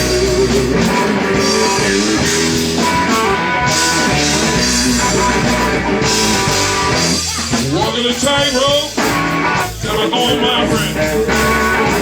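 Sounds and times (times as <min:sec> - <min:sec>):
rock band playing: 0:00.0 - 0:12.0.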